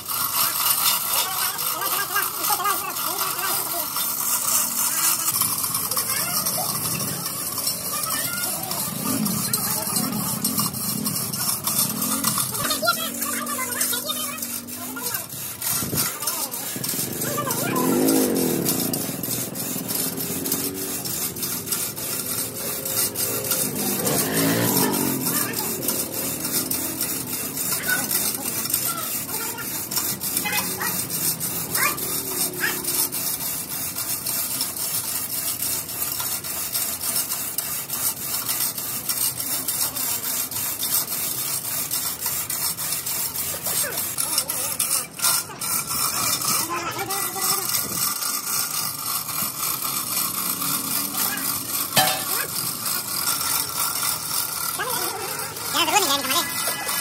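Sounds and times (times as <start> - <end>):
chain hoist rattling: 0.0 - 57.0
voices: 0.0 - 57.0.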